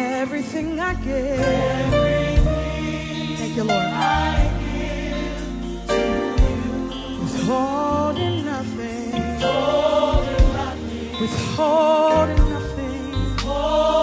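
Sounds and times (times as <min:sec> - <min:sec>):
band playing: 0:00.0 - 0:14.0
choir singing: 0:01.4 - 0:14.0.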